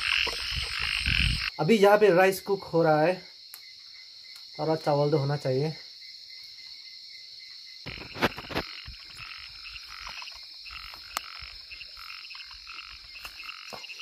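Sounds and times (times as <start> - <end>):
frogs croaking: 0.0 - 14.0
high insect drone: 0.0 - 14.0.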